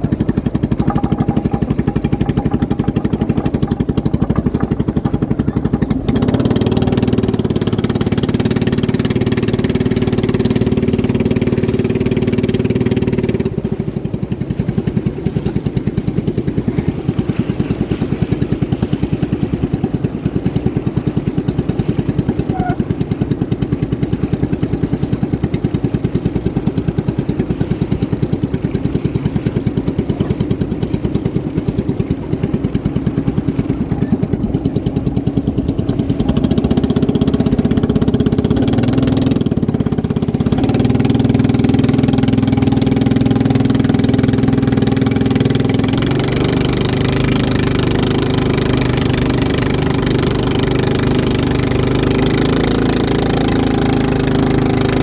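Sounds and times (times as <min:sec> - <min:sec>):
racing boat engine: 0:00.0 - 0:55.0.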